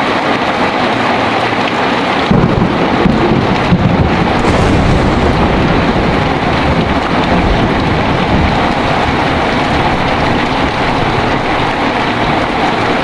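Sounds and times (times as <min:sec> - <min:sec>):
heavy rain falling: 0:00.0 - 0:13.0
strong wind: 0:02.2 - 0:13.0
rumble of thunder: 0:02.3 - 0:13.0.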